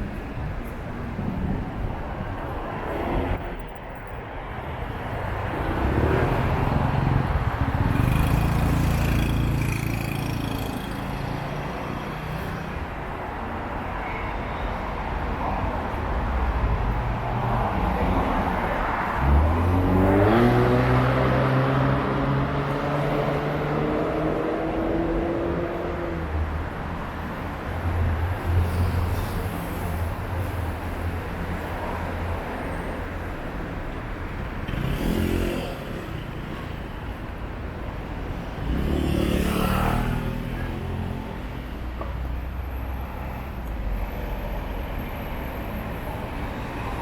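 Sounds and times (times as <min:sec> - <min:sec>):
passing vehicle engines: 0:00.0 - 0:47.0.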